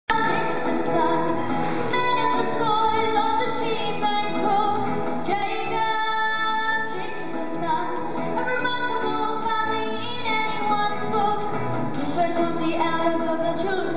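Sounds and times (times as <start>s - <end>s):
instrumental backing: 0.1s - 13.9s.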